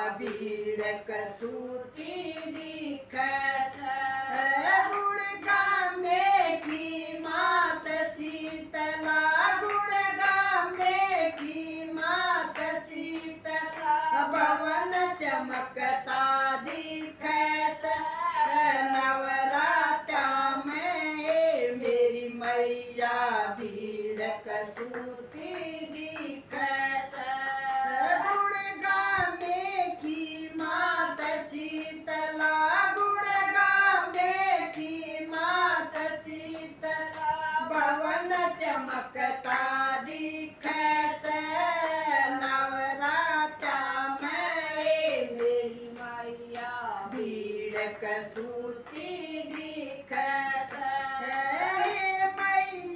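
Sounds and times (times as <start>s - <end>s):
women singing together: 0.0s - 52.9s
hands clapping: 0.2s - 19.4s, 20.1s - 52.9s.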